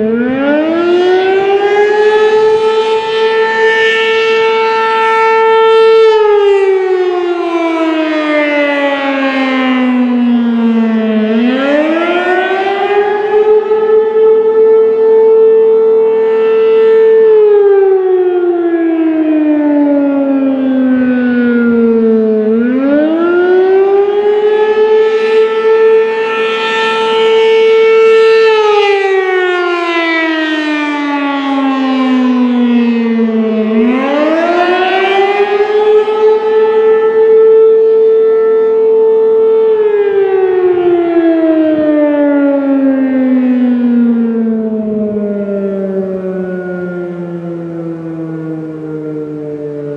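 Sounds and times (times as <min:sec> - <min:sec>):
mechanical warning siren wailing: 0:00.0 - 0:49.9.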